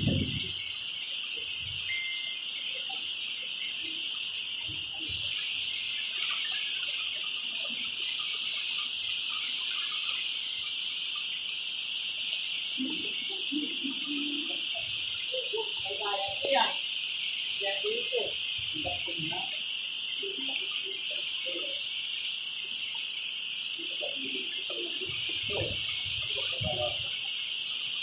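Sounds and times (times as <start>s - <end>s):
crickets chirping: 0.0s - 28.0s
faint bird chirps: 0.0s - 28.0s.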